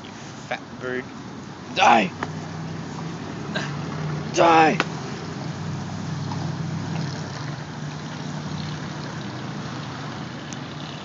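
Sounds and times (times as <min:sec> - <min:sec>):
low engine hum: 0:00.1 - 0:11.0.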